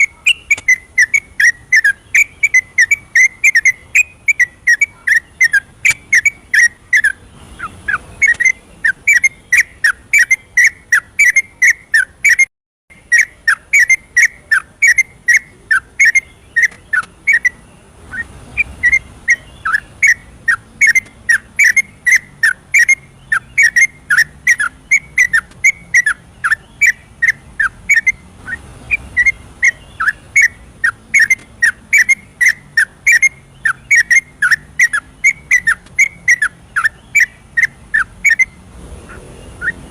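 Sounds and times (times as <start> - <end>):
bird whistling rapid notes: 0.0 - 39.9.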